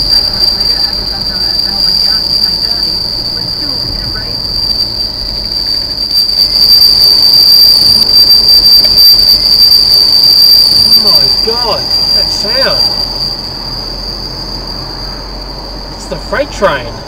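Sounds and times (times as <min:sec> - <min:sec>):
train wheels squealing on rails: 0:00.0 - 0:17.0.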